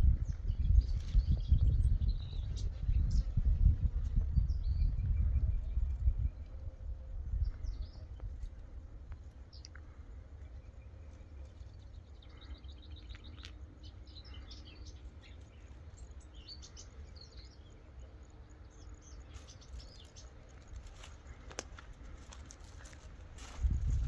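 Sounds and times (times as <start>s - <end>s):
low steady rumble: 0.0s - 24.0s
small birds chirping: 0.0s - 24.0s.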